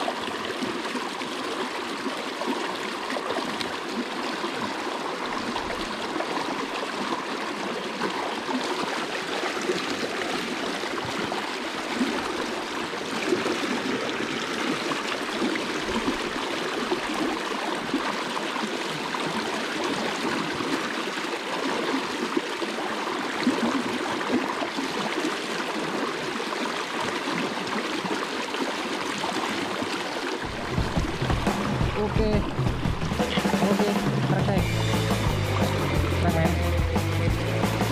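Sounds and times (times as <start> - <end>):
creek water rushing over logs: 0.0 - 37.9.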